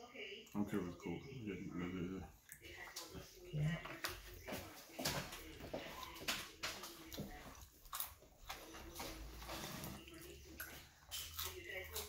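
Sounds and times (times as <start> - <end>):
man chewing food: 0.5 - 12.0.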